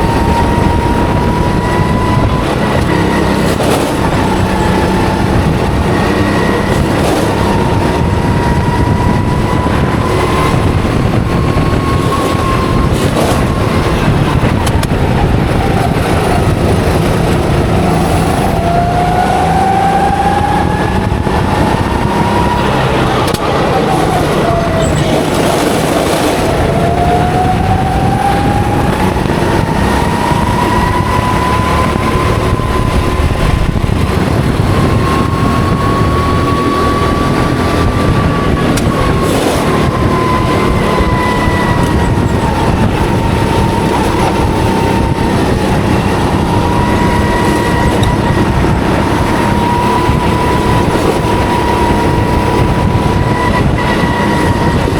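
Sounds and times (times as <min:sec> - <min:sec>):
kart engine accelerating: 0:00.0 - 0:54.9
road noise rush: 0:00.0 - 0:54.9.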